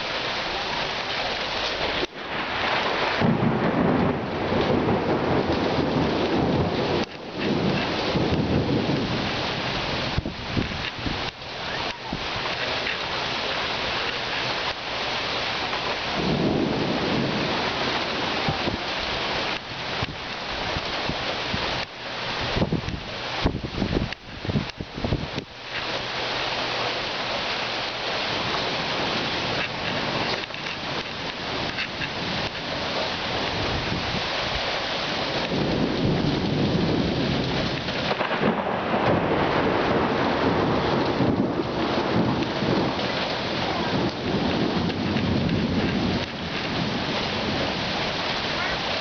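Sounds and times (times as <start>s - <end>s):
steady rain: 0.0s - 49.0s
low rumble of thunder: 2.2s - 12.4s, 15.8s - 25.4s, 27.9s - 49.0s.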